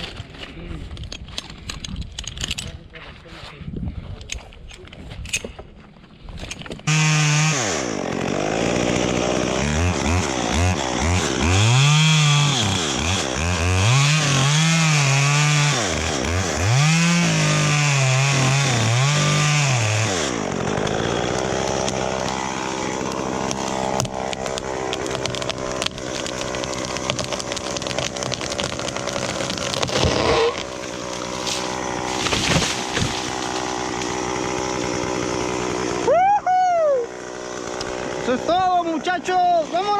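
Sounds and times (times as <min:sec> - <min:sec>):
chainsaw cutting wood: 0:06.8 - 0:39.9.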